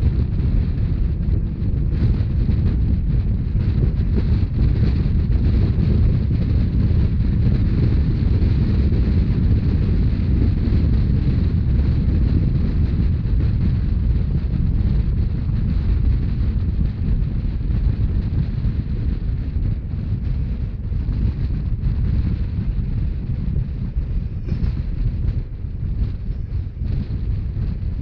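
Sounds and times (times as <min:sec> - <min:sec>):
train running rumble: 0:00.0 - 0:28.0
wind buffeting microphone: 0:00.0 - 0:28.0.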